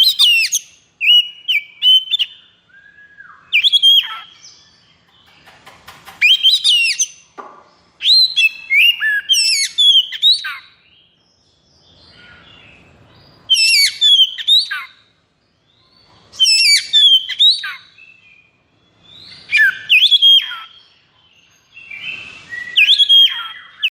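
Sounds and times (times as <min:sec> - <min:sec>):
bird singing whistled notes: 0:00.0 - 0:05.0, 0:06.2 - 0:07.3, 0:08.0 - 0:15.0, 0:15.6 - 0:23.9.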